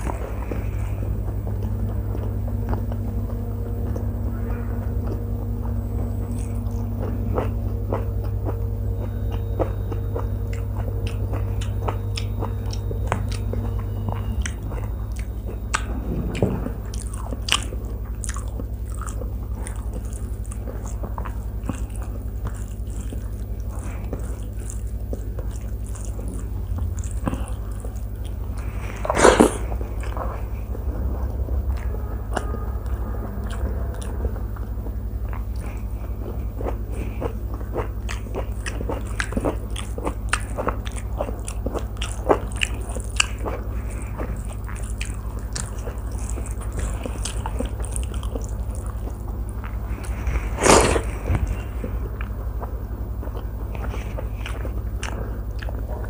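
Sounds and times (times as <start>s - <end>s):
person chewing with wet mouth clicks: 0.0s - 30.7s, 31.7s - 50.9s, 52.2s - 56.0s
steady low hum: 0.0s - 56.0s.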